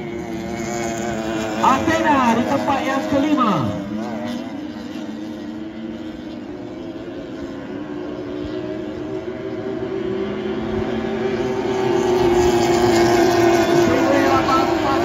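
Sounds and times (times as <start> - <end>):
powerboat outboard engines droning: 0.0 - 15.0.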